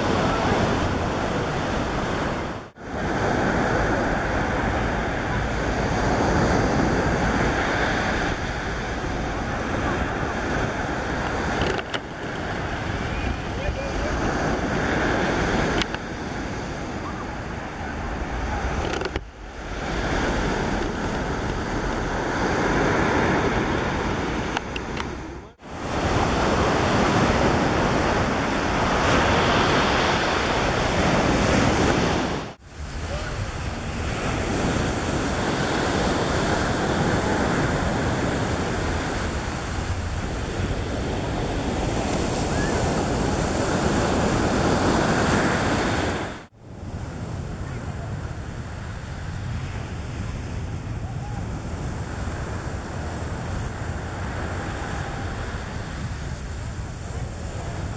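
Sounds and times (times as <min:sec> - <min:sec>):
surf breaking on shore: 0:00.0 - 0:57.9
wind rushing over microphone: 0:00.0 - 0:57.9.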